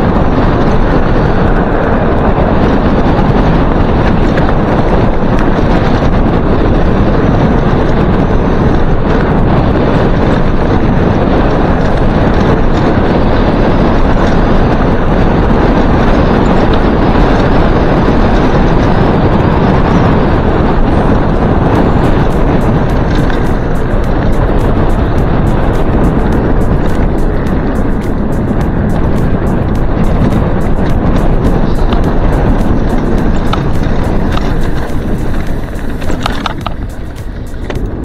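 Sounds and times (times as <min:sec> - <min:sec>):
tyres rumbling on gravel: 0:00.0 - 0:38.0
wind buffeting on microphone: 0:00.0 - 0:38.0.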